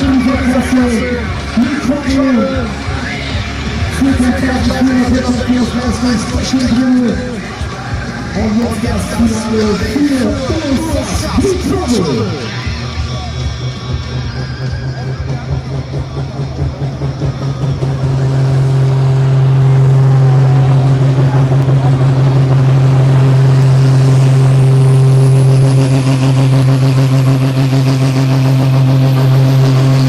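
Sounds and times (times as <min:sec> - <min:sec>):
diesel engine at high revs: 0:00.0 - 0:30.0
high whine climbing in pitch: 0:00.0 - 0:30.0.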